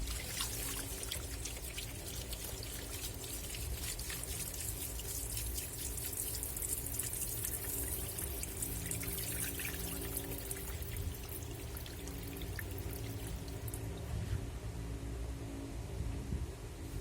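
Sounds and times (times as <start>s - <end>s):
water sloshing in washing machine: 0.0s - 14.1s
washing machine motor hum: 0.0s - 14.3s.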